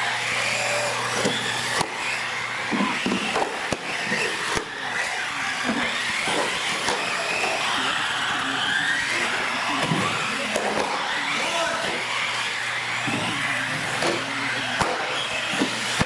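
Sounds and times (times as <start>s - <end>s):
rc car motors whining: 0.0s - 16.0s.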